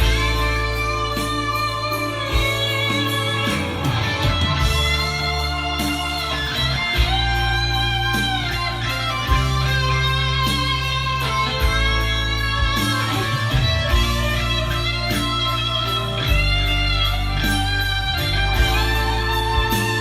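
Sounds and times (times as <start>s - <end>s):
bass line: 0.0s - 20.0s
sustained electric guitar notes: 0.0s - 20.0s.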